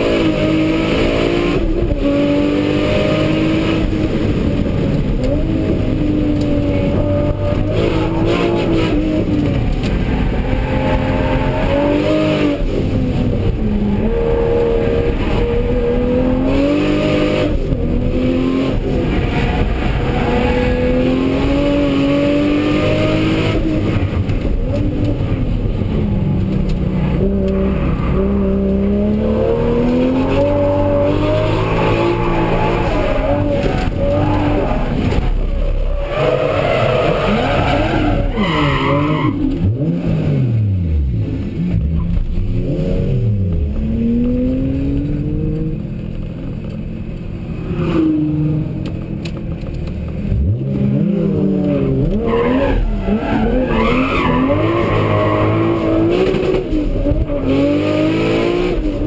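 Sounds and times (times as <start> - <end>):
race car engine accelerating: 0.0 - 46.2, 47.7 - 59.0.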